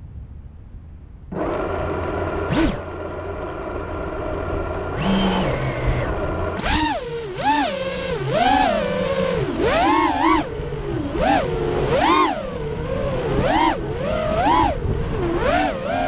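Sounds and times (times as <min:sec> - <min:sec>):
quadcopter motors whining: 0:01.3 - 0:16.0.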